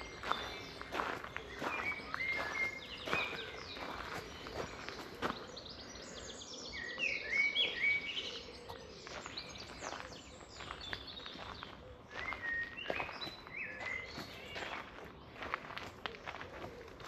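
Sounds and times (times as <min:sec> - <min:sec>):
songbirds trilling and chirping: 0:00.0 - 0:17.0.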